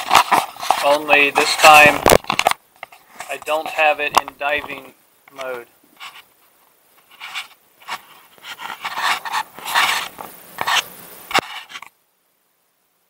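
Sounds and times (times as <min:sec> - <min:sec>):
muffled rubbing and scraping: 0:00.0 - 0:12.0.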